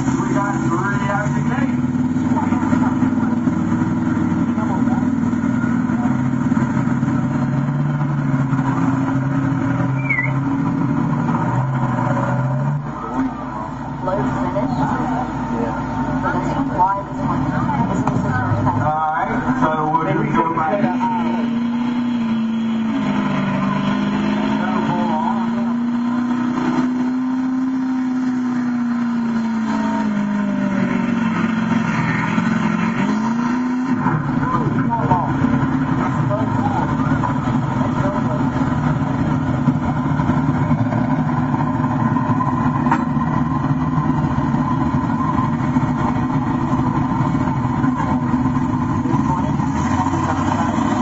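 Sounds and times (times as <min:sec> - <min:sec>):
truck engine driving past: 0:00.0 - 0:51.0.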